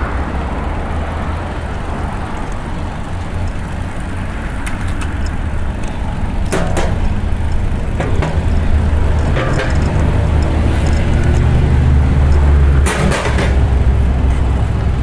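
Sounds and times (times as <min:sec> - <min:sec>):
road traffic rumble: 0:00.0 - 0:15.0
wind: 0:00.0 - 0:15.0
bicycle clicks and ticks: 0:00.2 - 0:12.5.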